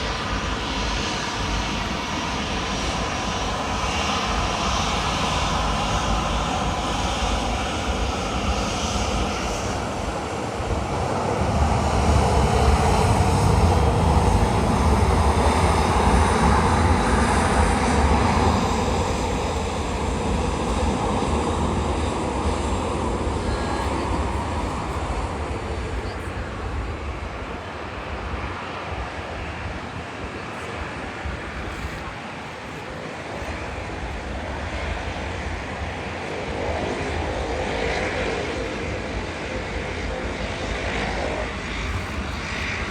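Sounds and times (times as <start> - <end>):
jet airliner engines passing: 0.0 - 42.9.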